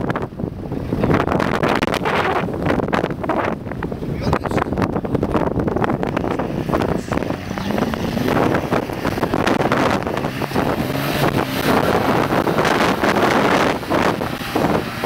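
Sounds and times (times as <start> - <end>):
car engine under load: 0.0 - 15.0
wind buffeting microphone: 0.0 - 15.0.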